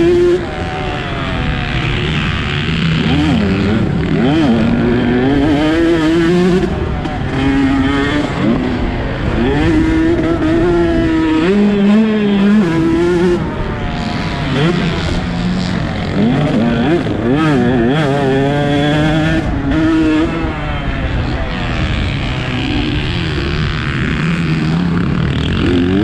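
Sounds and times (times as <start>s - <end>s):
motocross engine running hard: 0.0s - 26.0s.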